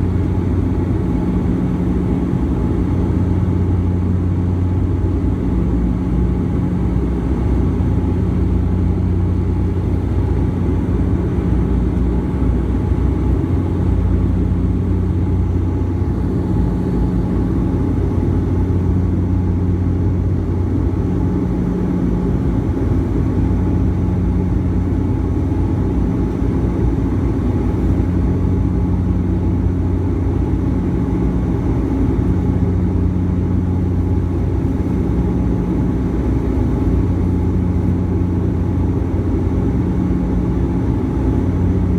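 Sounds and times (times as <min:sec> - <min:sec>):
airliner engines and airflow drone: 0:00.0 - 0:41.9.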